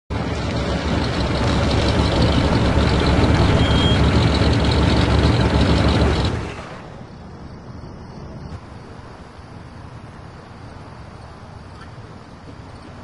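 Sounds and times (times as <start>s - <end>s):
heavy truck engine running: 0.1s - 13.0s.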